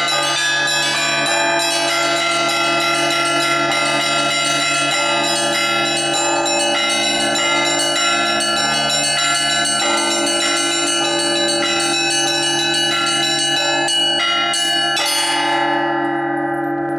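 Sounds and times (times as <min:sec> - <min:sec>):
large bells ringing: 0:00.0 - 0:16.9.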